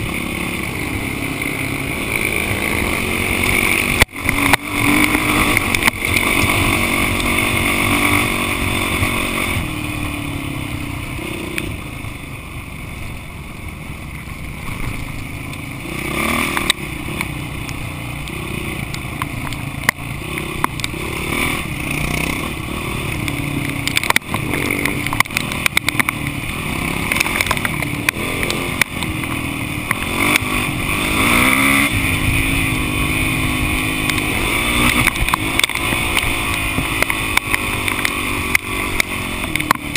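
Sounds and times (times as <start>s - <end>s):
knocks and clatter over rough ground: 0.0s - 11.8s, 13.7s - 39.9s
off-road motorcycle engine revving: 0.0s - 39.9s.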